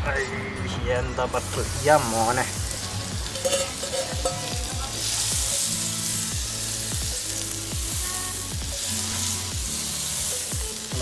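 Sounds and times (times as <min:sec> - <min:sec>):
background music with low beat: 0:00.0 - 0:11.0
butter sizzling in a pan: 0:01.4 - 0:11.0.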